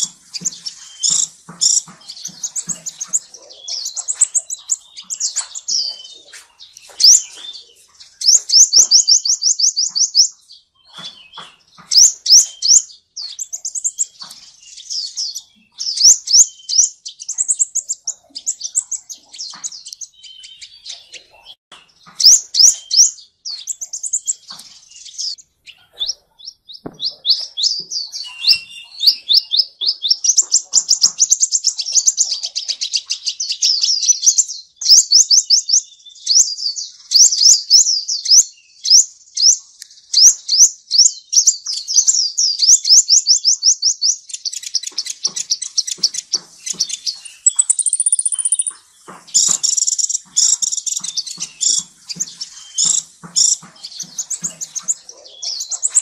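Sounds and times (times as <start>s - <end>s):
sunbird song high thin trills: 0.0s - 56.0s.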